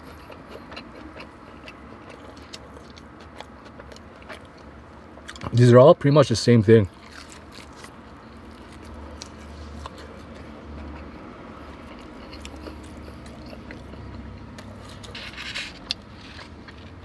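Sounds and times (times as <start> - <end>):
person chewing food: 0.0 - 5.5, 6.9 - 17.0.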